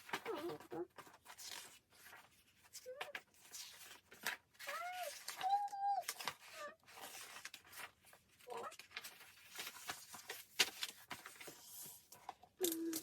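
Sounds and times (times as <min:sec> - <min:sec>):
paper and packaging rustling: 0:00.0 - 0:13.0.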